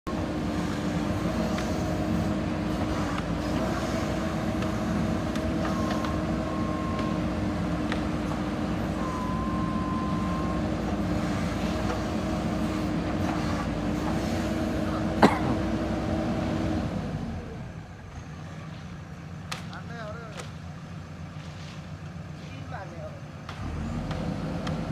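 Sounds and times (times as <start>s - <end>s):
diesel engine running: 0.0s - 24.9s
high engine whine: 0.1s - 21.2s.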